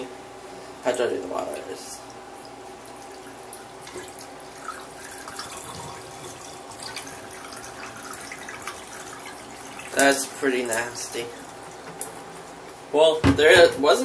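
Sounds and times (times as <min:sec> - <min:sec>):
water pouring and splashing: 0:02.4 - 0:13.6.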